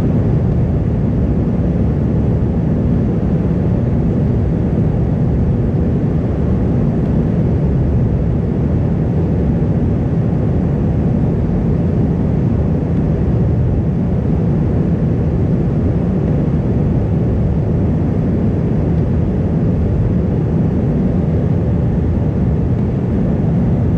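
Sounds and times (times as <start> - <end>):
jet engine cabin drone: 0.0 - 23.9.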